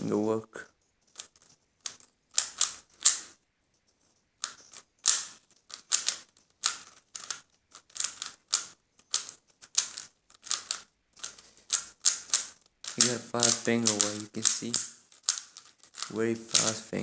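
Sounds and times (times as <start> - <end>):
puzzle cube plastic clacking: 1.0 - 3.4, 4.4 - 17.0.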